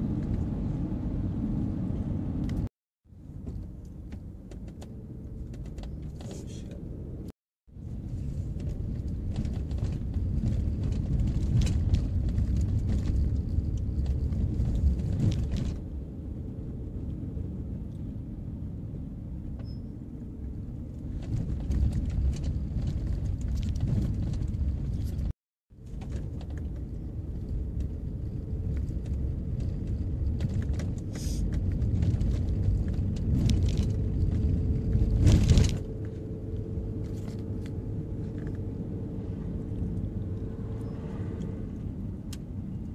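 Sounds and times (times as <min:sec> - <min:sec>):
car engine rumble: 0:00.0 - 0:42.9.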